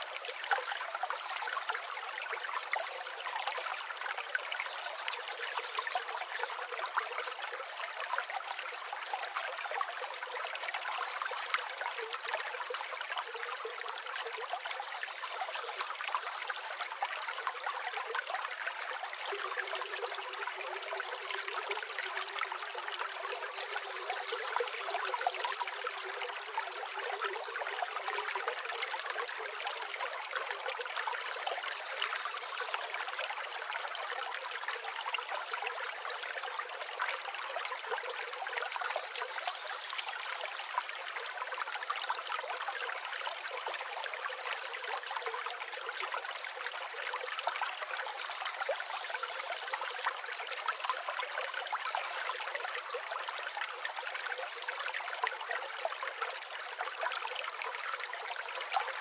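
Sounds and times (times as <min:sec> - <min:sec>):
river water rushing and trickling: 0:00.0 - 0:59.0.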